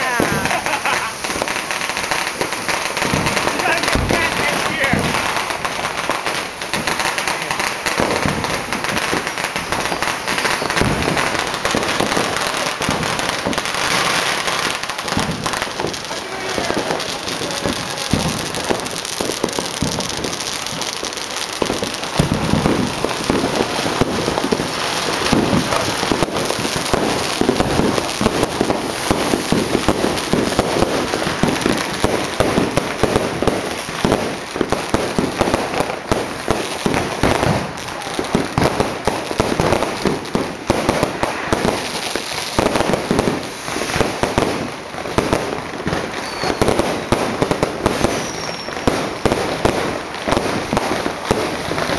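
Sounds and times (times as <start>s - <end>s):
firecrackers popping and crackling: 0.0s - 51.9s.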